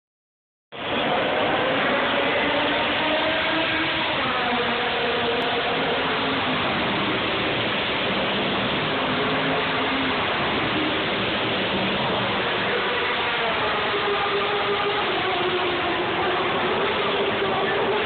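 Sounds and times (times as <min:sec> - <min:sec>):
race car engines: 0:00.7 - 0:18.0.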